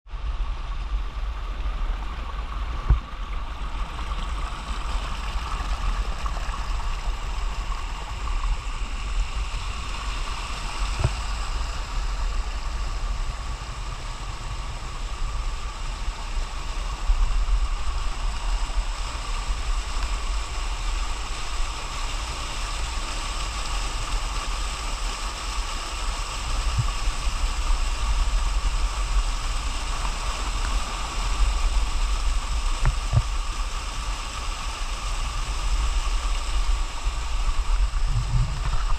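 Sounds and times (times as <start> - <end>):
stream rushing down waterfall: 0.2 - 38.9.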